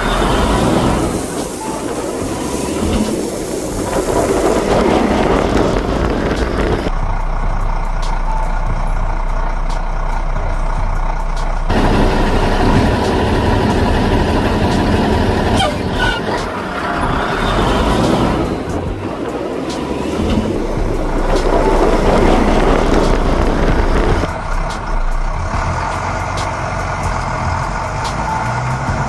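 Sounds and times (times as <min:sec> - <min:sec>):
heavy truck engine running: 0:00.0 - 0:29.0.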